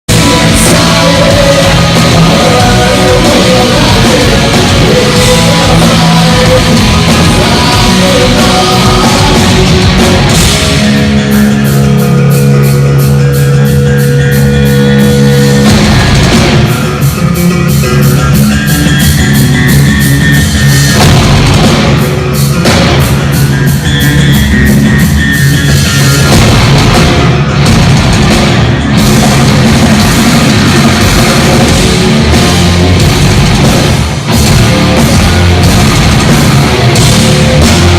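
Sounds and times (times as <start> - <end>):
bass guitar: 0.0 - 37.9
drums: 0.0 - 37.9
electric guitars: 0.1 - 37.9.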